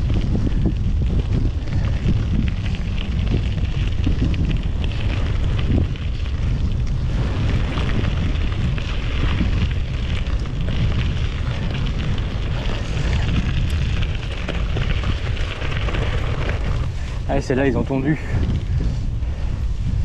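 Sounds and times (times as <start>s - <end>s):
bike tyres crackling on track: 0.0s - 20.0s
wind buffeting microphone: 0.0s - 20.0s.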